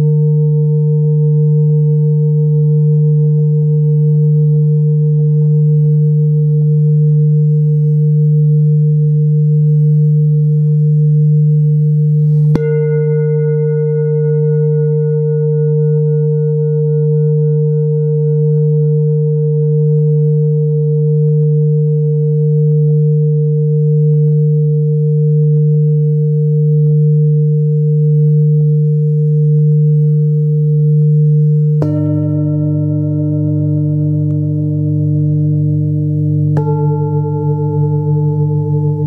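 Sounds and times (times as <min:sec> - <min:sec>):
bowl struck with mallet: 0:00.0 - 0:39.0
singing bowls humming: 0:00.0 - 0:39.0.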